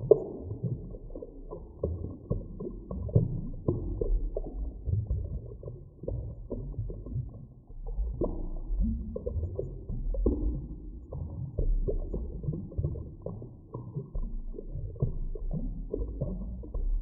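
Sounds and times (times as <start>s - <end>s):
low underwater rumble: 0.0s - 17.0s
underwater clicks and knocks: 0.0s - 17.0s.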